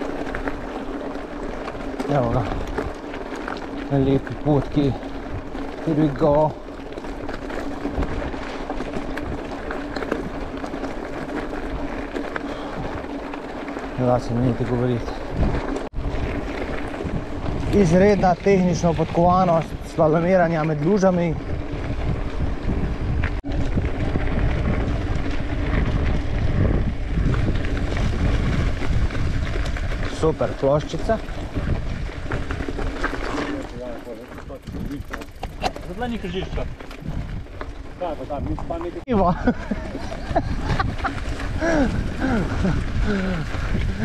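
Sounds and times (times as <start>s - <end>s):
bike tyres crunching on gravel: 0.0s - 44.0s
stones and bike rattling: 0.0s - 44.0s
wind buffeting microphone: 0.0s - 44.0s.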